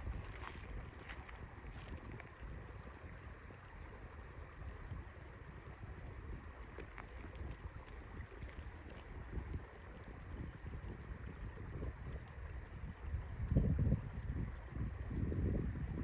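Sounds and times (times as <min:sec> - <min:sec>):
wind buffeting microphone: 0:00.0 - 0:03.9, 0:04.6 - 0:16.0.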